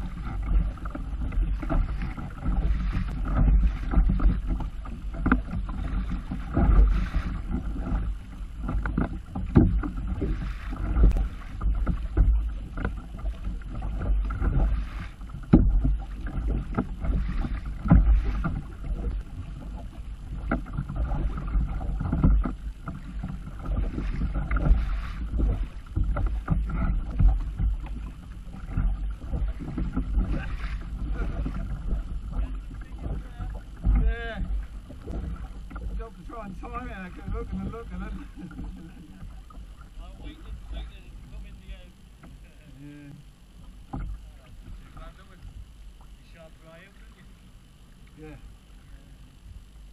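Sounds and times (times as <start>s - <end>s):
kayak paddle splashing: 0.0s - 49.9s
wind rumble on microphone: 0.0s - 49.9s.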